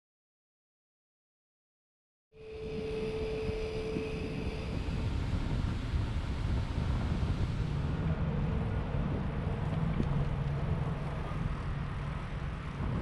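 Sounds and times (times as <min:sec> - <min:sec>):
faint low hum: 0:02.4 - 0:13.0
low road rumble: 0:02.4 - 0:13.0
wind buffeting microphone: 0:02.5 - 0:13.0.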